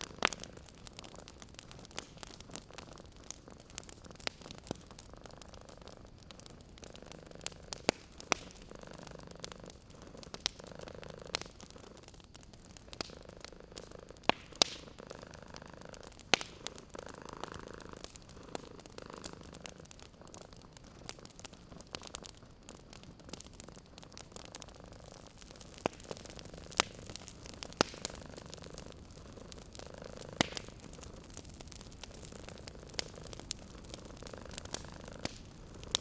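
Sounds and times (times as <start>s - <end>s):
cat purring: 0.0s - 22.4s, 24.2s - 36.0s
wood fire crackling: 0.0s - 36.0s.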